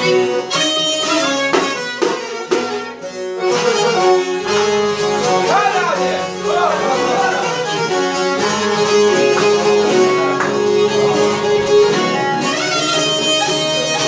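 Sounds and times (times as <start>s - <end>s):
accordion held notes: 0.0s - 14.0s
violin ornamented melody: 0.0s - 14.0s.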